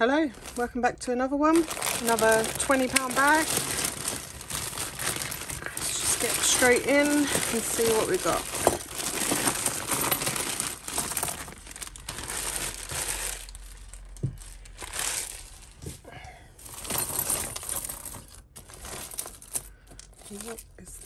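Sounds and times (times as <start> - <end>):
hands rummaging through jewellery: 0.3 - 0.7, 1.5 - 21.0
plastic mailer bag crinkling: 0.3 - 0.7, 1.4 - 16.0, 16.7 - 20.6
jewellery clattering and clinking: 1.6 - 14.6, 16.6 - 21.0.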